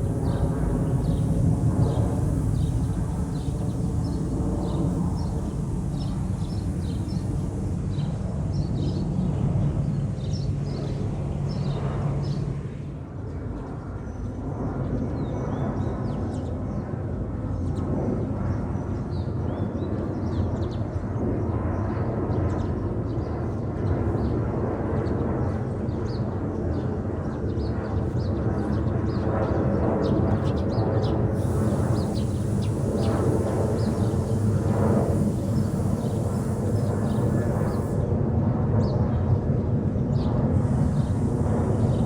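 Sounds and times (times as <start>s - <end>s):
jet airliner rumbling overhead: 0.0s - 42.0s.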